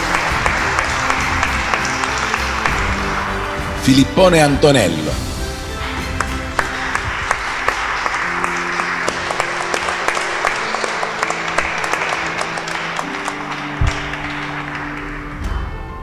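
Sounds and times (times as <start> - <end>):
audience applauding: 0.0 - 4.8, 5.5 - 15.8
soft background music: 0.0 - 16.0.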